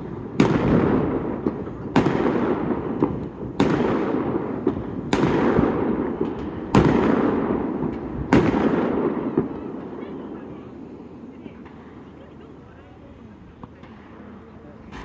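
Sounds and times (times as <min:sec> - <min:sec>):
firework bangs with rolling echo: 0:00.0 - 0:12.7
firework crackles: 0:00.0 - 0:12.7.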